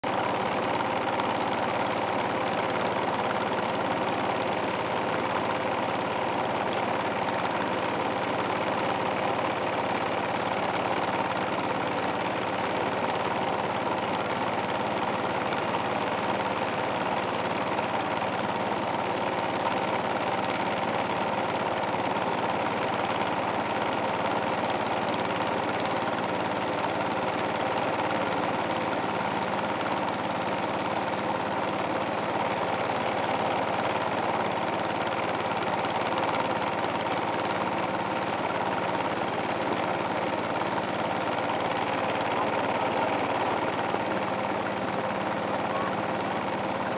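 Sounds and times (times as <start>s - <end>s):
motorboat engine droning: 0.1s - 46.9s.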